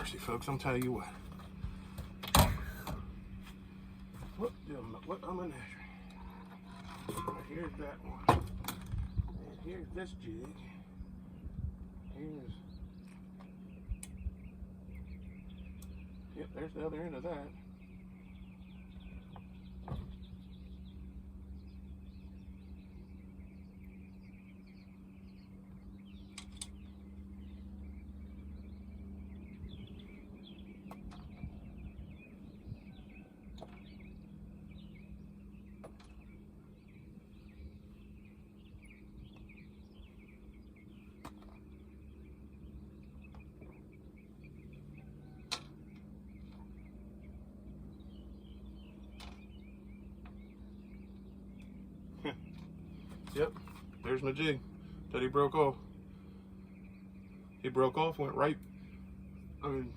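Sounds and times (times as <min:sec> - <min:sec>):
birds chirping and singing: 0:00.0 - 0:59.9
low hum: 0:00.0 - 0:59.9.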